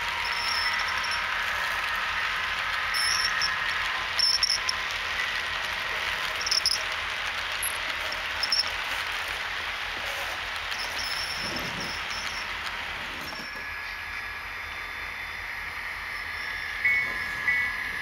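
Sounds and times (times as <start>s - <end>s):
model train wheels rattling on rails: 0.0s - 18.0s.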